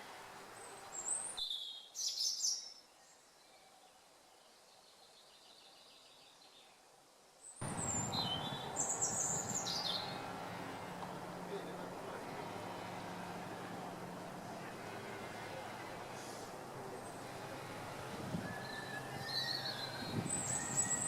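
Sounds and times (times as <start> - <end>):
outdoor background noise: 0.0 - 21.0
songbirds chirping: 0.3 - 21.0.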